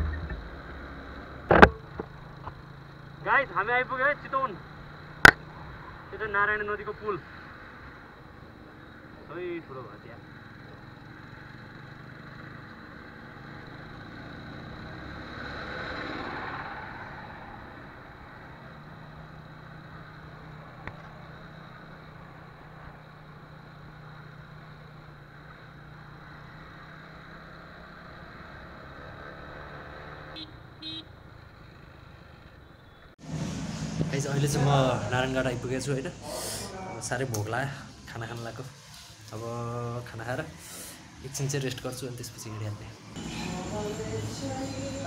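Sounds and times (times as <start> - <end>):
motorcycle engine cruising: 0.0 - 36.3, 37.0 - 45.0
wind and road noise: 0.0 - 45.0.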